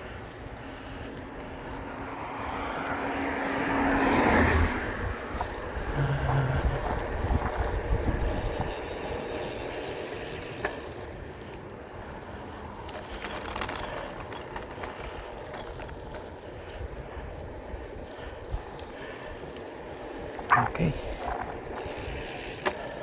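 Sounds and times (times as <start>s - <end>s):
motor vehicle passing: 0.0s - 14.0s, 16.8s - 23.0s.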